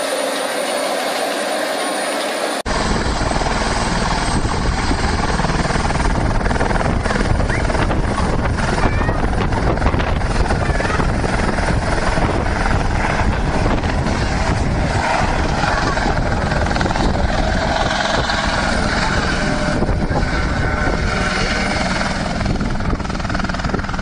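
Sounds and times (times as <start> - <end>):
helicopter lifting off: 0.0 - 24.0.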